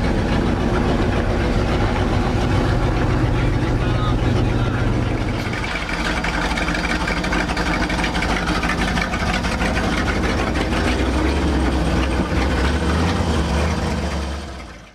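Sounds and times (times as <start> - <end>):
truck engine idling: 0.0 - 14.9.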